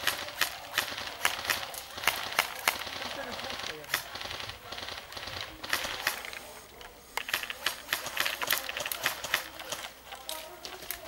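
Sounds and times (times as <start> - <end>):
airsoft guns firing: 0.0 - 6.4, 7.2 - 11.0.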